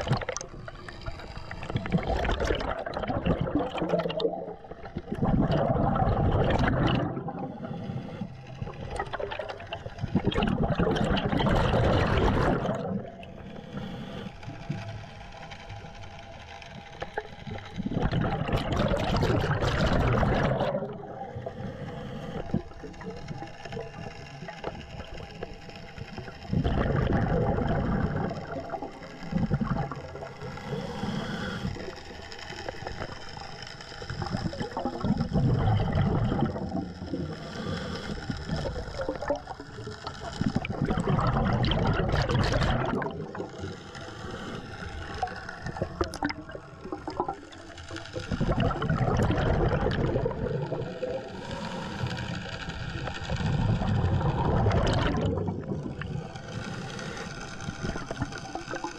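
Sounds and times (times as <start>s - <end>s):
underwater exhaled bubbling: 0.0s - 15.0s, 16.9s - 58.9s.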